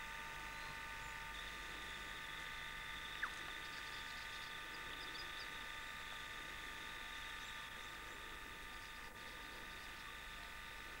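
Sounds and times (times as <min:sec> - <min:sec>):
faint whine of held tones: 0:00.0 - 0:11.0.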